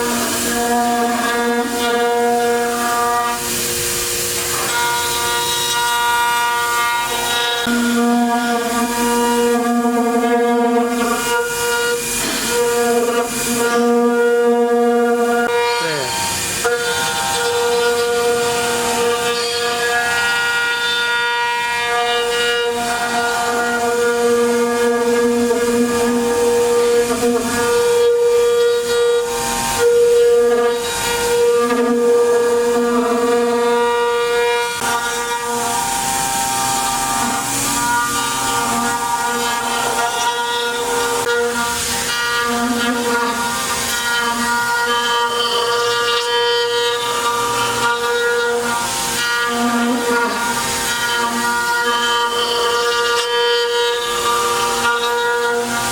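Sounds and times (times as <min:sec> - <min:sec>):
cutter hissing through wood: 0:00.0 - 0:55.9
router spindle whine: 0:00.0 - 0:55.9.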